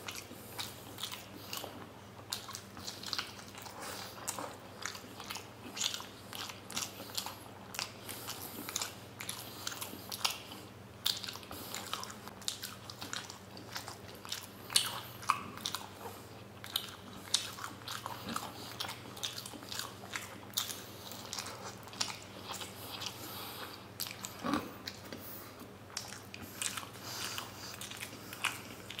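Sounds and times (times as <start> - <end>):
chewing with wet mouth smacks: 0.0 - 29.0.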